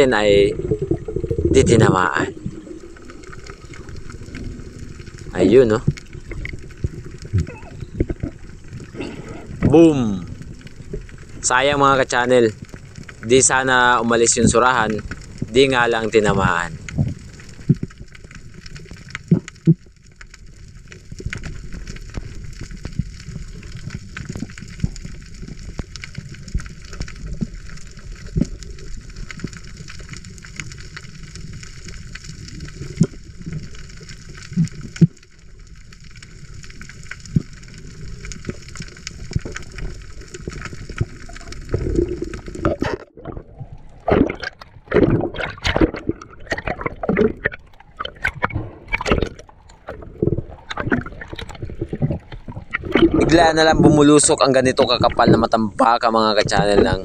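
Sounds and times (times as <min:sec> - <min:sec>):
small clicks and crackles: 0:00.0 - 0:57.0
underwater hiss and rumble: 0:00.0 - 0:57.0
water bubbling and gurgling: 0:00.0 - 0:57.0.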